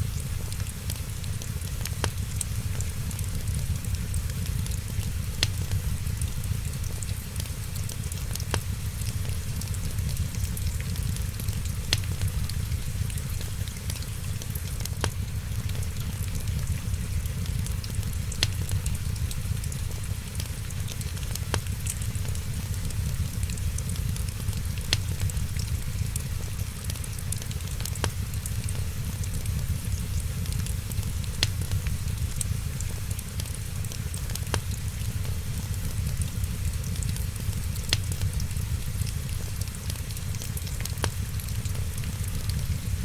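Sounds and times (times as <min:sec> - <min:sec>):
fire crackling with sharp pops: 0:00.0 - 0:43.0
fire hiss and low rumble: 0:00.0 - 0:43.0.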